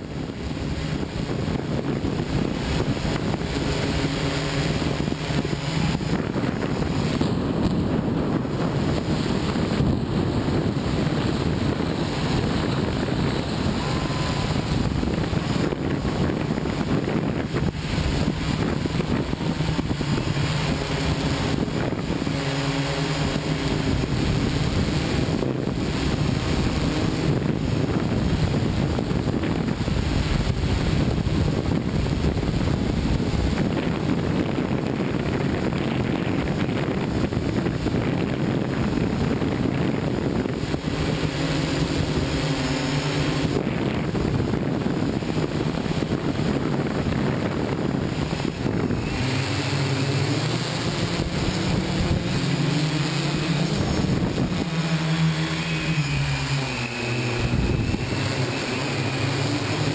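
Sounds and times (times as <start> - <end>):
drone rotors humming: 0.0 - 59.9
wind noise on microphone: 0.0 - 59.9.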